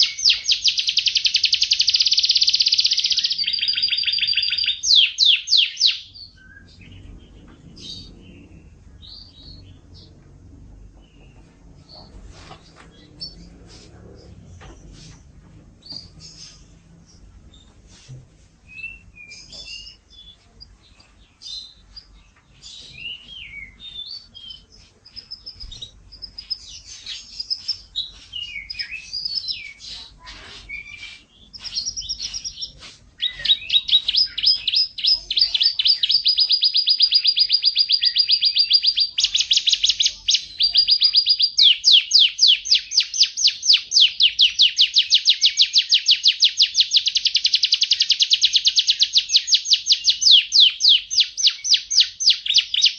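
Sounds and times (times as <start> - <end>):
canary singing: 0.0 - 13.7, 18.6 - 52.9.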